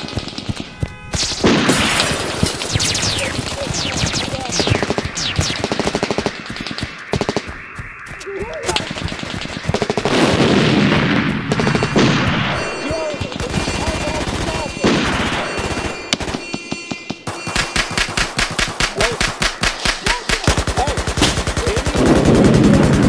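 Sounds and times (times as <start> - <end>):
rapid automatic gunfire: 0.0 - 7.5, 8.8 - 16.3, 17.3 - 23.0.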